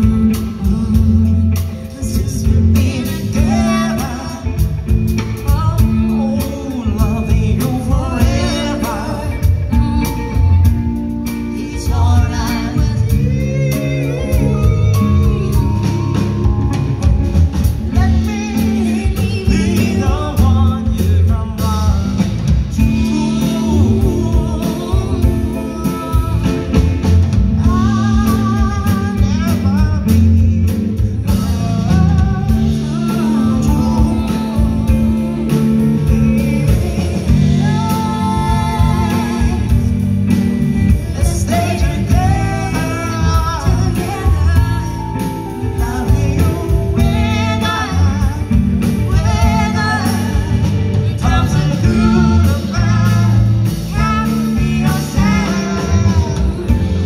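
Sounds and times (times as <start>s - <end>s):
drum kit beat: 0.0s - 57.0s
electric guitar: 0.0s - 57.0s
person singing: 0.0s - 57.0s.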